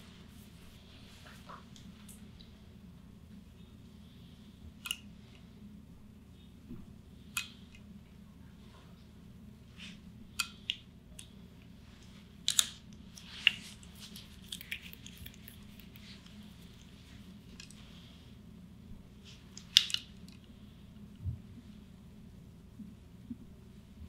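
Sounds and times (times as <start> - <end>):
faint room hum: 0.0 - 24.0.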